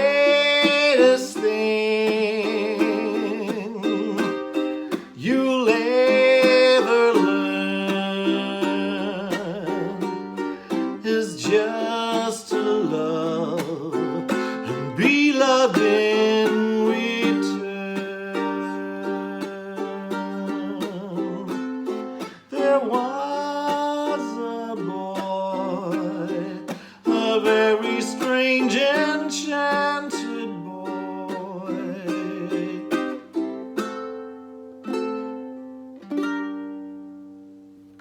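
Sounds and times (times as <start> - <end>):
person singing with vibrato: 0.0 - 34.1
ukulele chords: 0.0 - 38.0.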